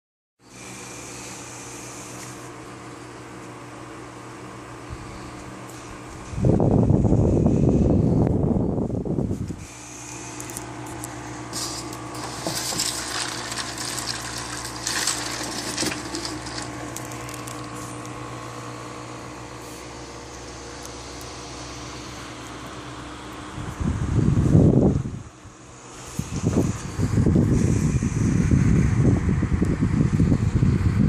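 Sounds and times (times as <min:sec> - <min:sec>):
fan motor hum: 0:00.4 - 0:31.0.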